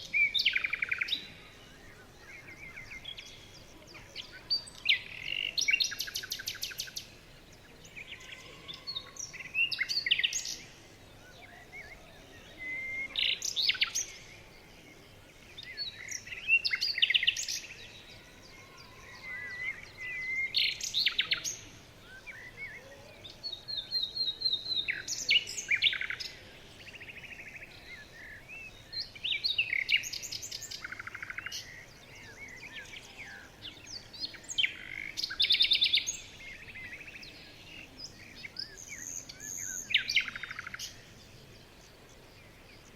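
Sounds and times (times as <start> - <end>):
faint bird chirps: 0.0 - 42.9
songbird singing trills: 0.0 - 42.9.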